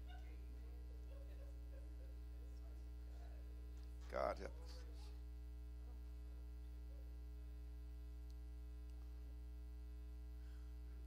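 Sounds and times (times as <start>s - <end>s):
electrical mains hum: 0.0s - 11.0s
faint room noise: 0.0s - 11.0s.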